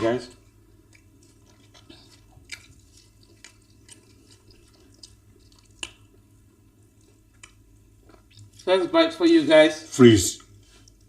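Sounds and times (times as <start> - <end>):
wet eating clicks and smacks: 0.3 - 8.7, 10.4 - 11.0.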